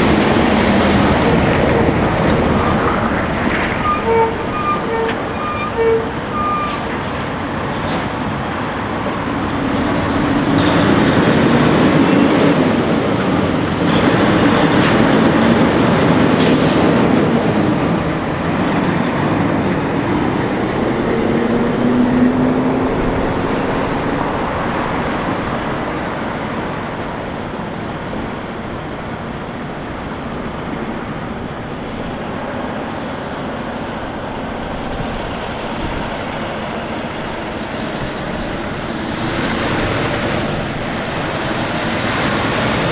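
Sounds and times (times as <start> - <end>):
trucks passing: 0.0 - 42.9.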